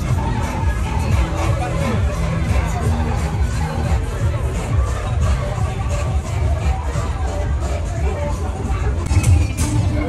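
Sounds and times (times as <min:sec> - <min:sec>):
crowd hubbub: 0:00.0 - 0:10.0
loud music with heavy bass: 0:00.0 - 0:10.0.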